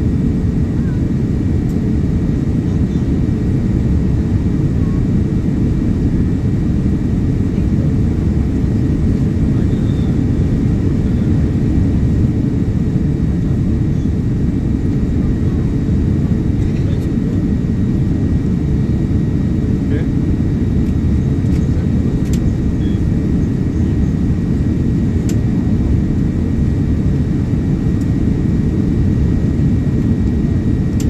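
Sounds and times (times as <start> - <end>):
airliner cabin engine rumble: 0.0 - 31.0.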